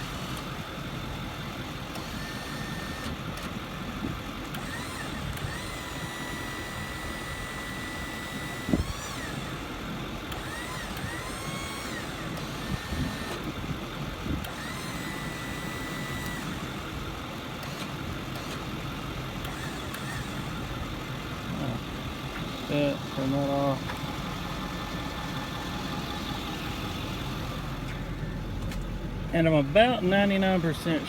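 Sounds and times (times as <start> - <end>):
crane motor whine: 0.0 - 31.0
diesel engine idling: 0.0 - 31.0.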